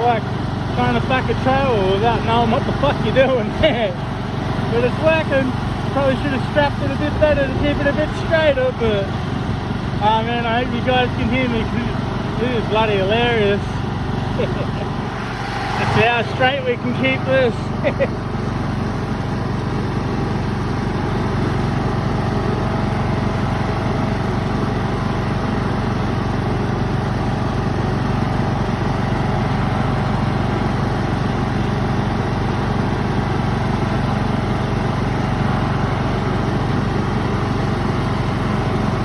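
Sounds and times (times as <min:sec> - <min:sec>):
ride-on lawn mower engine: 0:00.0 - 0:39.0.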